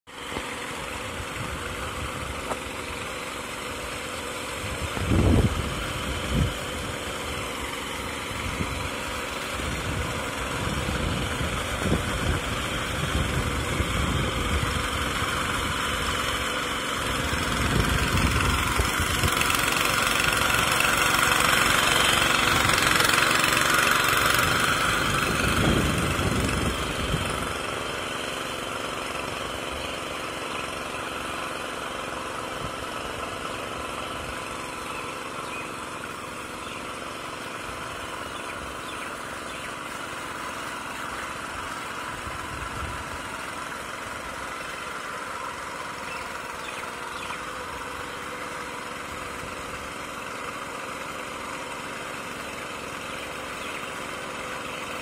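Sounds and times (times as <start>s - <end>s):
power weeder engine running: 0.1s - 55.0s.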